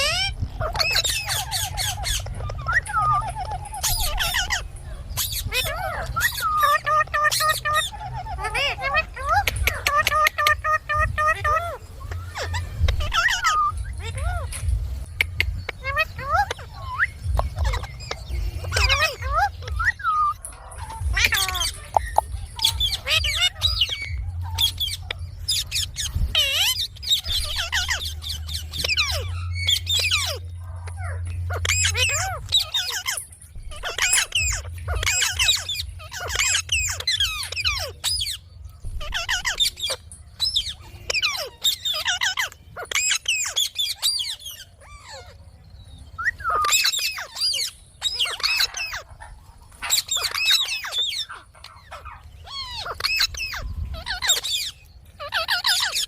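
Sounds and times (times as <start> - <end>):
parrot squawking and chattering: 0.0 - 56.0.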